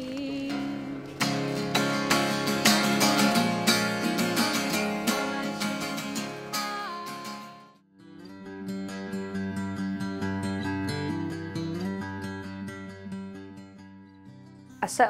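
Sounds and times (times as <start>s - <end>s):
acoustic guitar strummed chords: 0.0s - 14.8s.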